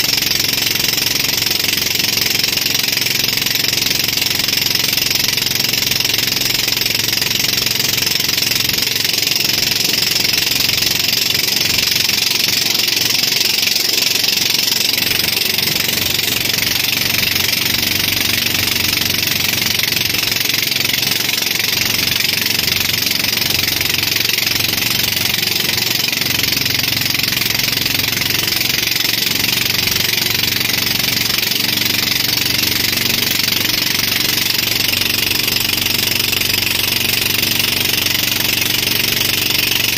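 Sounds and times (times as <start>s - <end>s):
boat engine running: 0.0s - 39.9s
rushing wake water: 0.0s - 39.9s.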